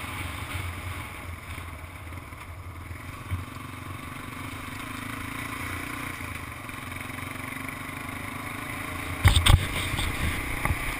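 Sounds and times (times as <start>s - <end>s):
atv engine running: 0.0s - 10.9s.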